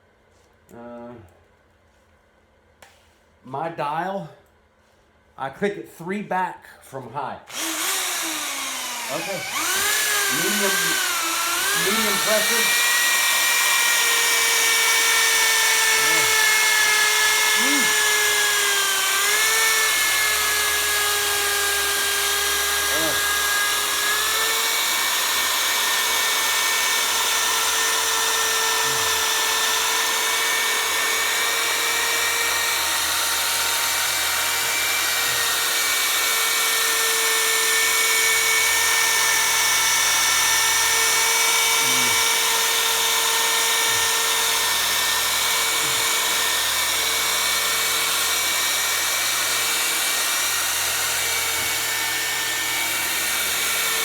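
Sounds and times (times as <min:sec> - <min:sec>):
polisher motor whining: 0:07.5 - 0:54.0.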